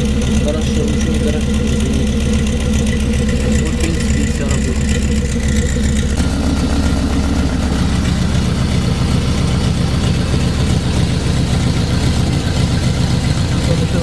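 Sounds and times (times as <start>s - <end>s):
car engine running with low exhaust note: 0.0s - 14.0s.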